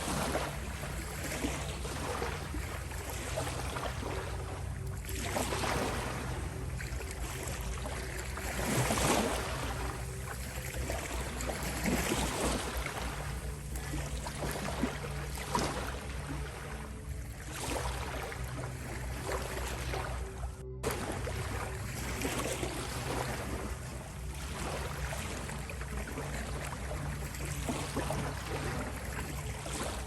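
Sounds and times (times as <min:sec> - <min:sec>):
low humming tones: 0:00.0 - 0:30.0
ocean waves washing in: 0:00.0 - 0:30.0.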